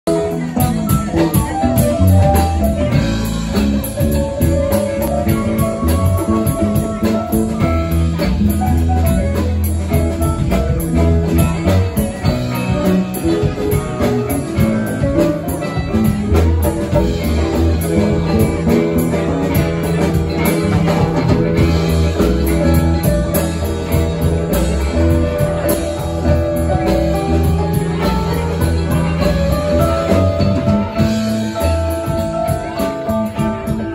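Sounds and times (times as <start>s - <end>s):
heavy bass line: 0.0s - 33.9s
live band instrumental jam: 0.0s - 33.9s.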